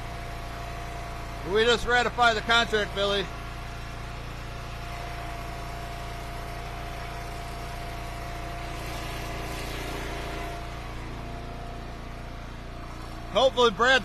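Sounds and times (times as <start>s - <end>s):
wood splitter engine running: 0.0s - 14.0s.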